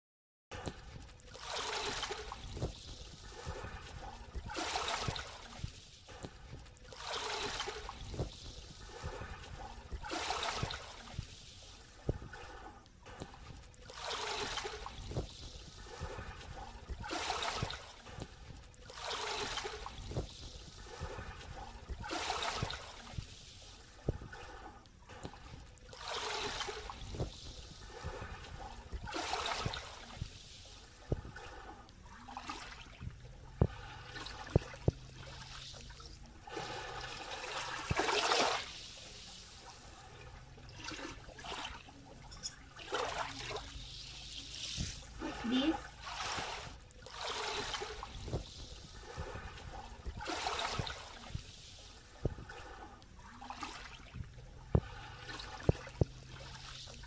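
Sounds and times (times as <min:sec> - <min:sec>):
small waves lapping on shore: 0:00.5 - 0:57.0.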